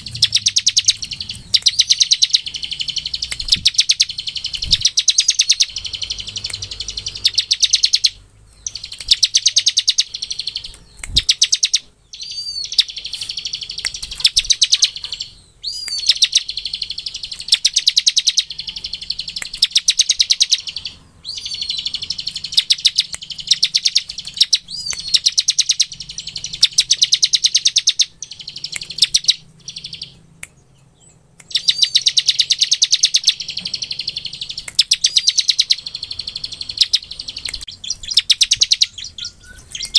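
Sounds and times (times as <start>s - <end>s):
bird singing buzzy rapid notes: 0.0s - 39.9s.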